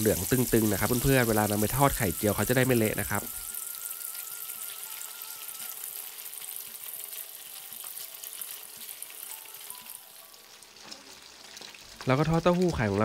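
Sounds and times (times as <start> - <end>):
tofu deep-frying in hot oil: 0.0 - 13.0.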